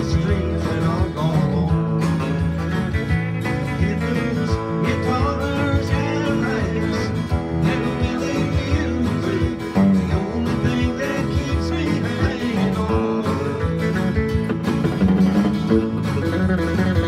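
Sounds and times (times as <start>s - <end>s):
acoustic guitars playing country tune: 0.0s - 17.0s.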